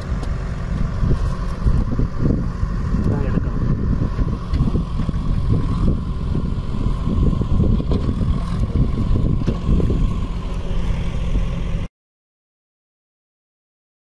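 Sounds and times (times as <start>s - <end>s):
outboard motor running: 0.0s - 11.9s.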